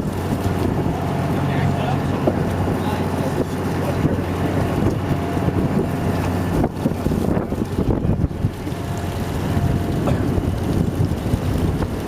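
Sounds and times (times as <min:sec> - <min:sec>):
boat engine humming: 0:00.0 - 0:12.0
wind buffeting microphone: 0:00.0 - 0:12.0.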